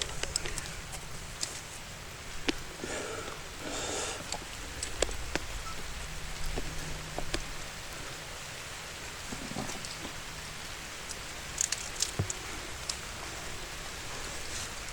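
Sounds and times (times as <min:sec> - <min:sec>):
rain falling: 0:00.0 - 0:14.9.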